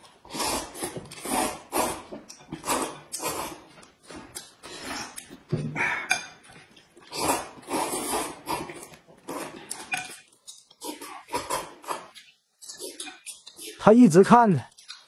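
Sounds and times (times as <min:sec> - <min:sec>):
people slurping noodles: 0:00.0 - 0:06.4, 0:07.0 - 0:10.2, 0:10.8 - 0:13.9.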